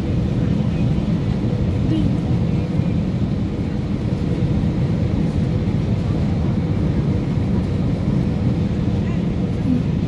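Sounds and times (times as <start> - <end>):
airplane cabin engine roar: 0.0 - 10.0.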